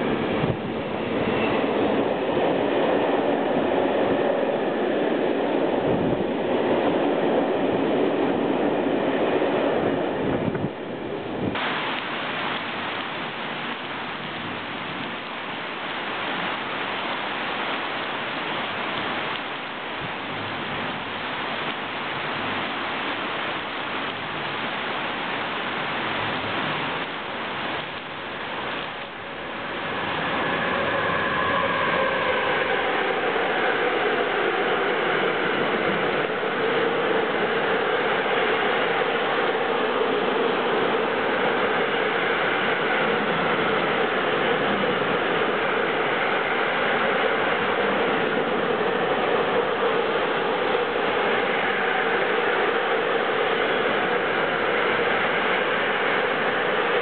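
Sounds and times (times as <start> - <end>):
freight train on wet track: 0.0 - 57.0
heavy rain falling: 0.0 - 57.0
train rumble and whine: 0.0 - 57.0.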